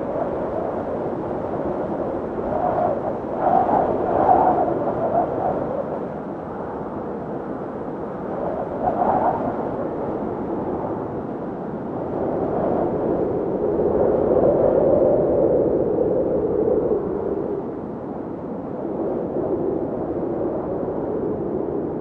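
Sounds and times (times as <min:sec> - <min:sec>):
blizzard wind howling: 0:00.0 - 0:22.0.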